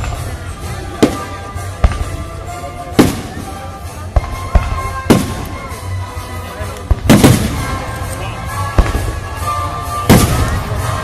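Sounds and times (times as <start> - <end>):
fireworks bursting: 0.0 - 11.0
music: 0.0 - 11.0.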